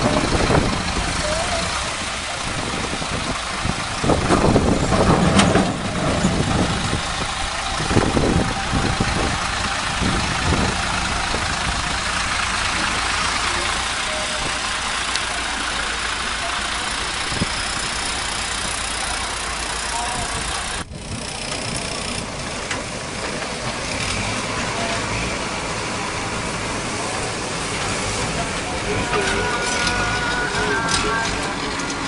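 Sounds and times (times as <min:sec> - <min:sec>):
heavy diesel engine idling: 0:00.0 - 0:32.0.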